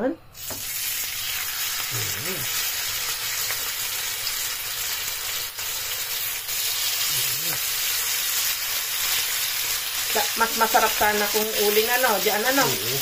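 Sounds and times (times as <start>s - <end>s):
steaks sizzling in a skillet: 0.4s - 13.0s.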